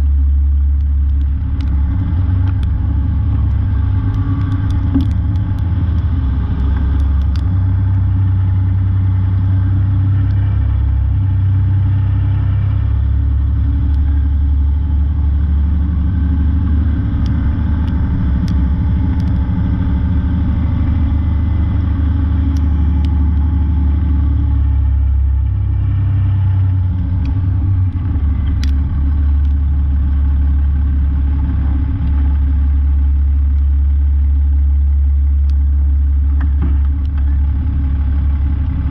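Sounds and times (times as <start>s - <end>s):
diesel truck engine rumbling: 0.0s - 38.9s.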